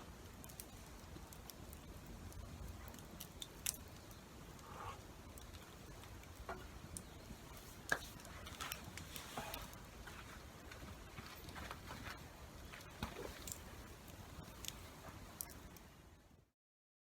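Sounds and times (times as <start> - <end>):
campfire crackling and popping: 0.0 - 16.4.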